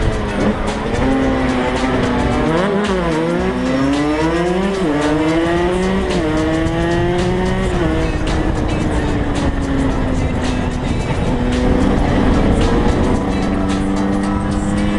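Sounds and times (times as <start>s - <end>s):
two-stroke motorcycle engine accelerating: 0.0s - 14.9s.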